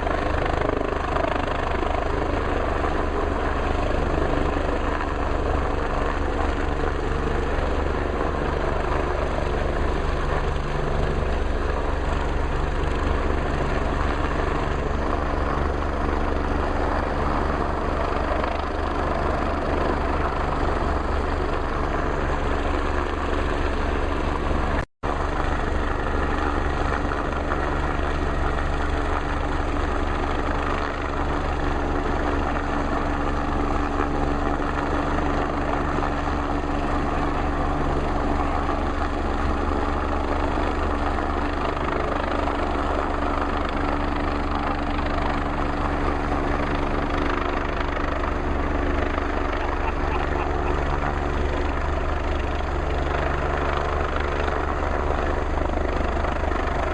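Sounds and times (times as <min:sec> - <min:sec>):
helicopter hovering: 0:00.0 - 0:56.9.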